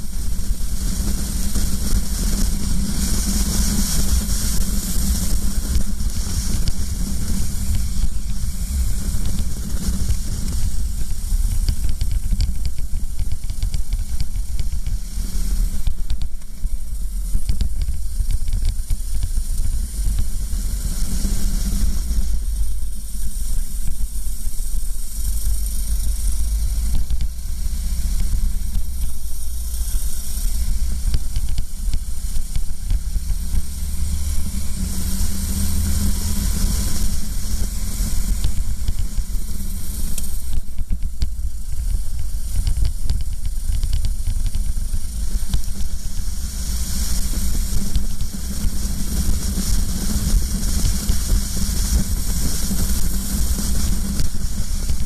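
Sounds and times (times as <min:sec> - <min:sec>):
racing kart engine drone: 0:00.0 - 0:55.0
wind hissing over microphone: 0:00.0 - 0:55.0.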